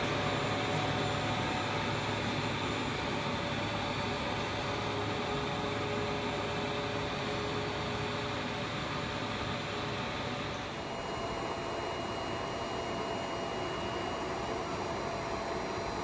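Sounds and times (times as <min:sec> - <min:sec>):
faint steady whines: 0:00.0 - 0:16.0
machine whir and hum: 0:00.0 - 0:16.0.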